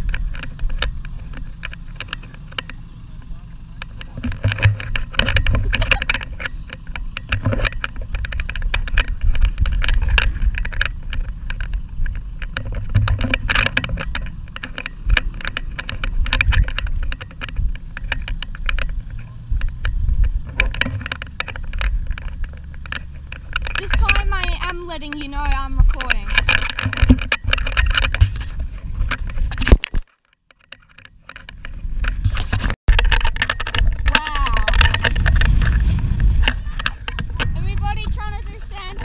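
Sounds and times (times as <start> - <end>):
engine and wind rumble: 0.0 - 39.0
sharp clicks and rattles: 0.0 - 39.0.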